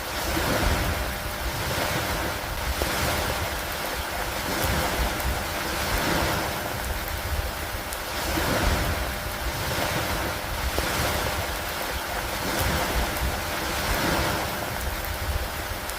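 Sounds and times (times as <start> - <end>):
rain: 0.0 - 15.9
waves washing against a dock: 0.0 - 15.9
wind rumbling on microphone: 0.0 - 15.9.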